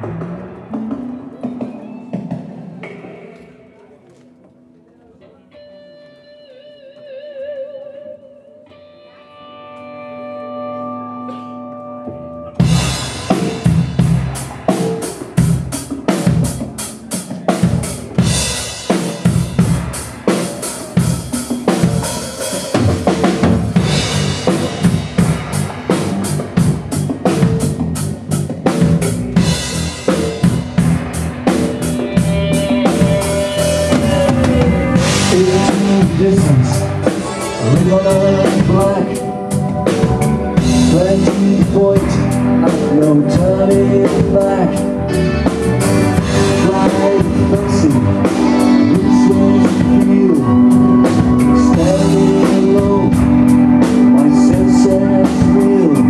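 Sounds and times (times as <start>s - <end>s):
rock band playing live: 0.0s - 3.7s, 5.5s - 56.0s.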